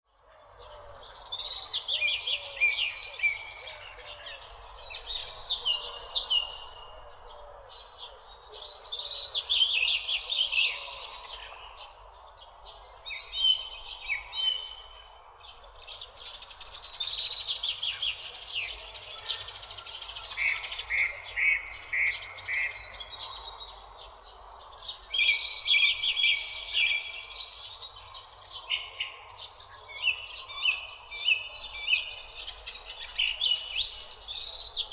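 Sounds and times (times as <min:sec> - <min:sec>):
faint natural ambience: 0:00.1 - 0:34.9
songbirds chirping and trilling: 0:00.1 - 0:34.9.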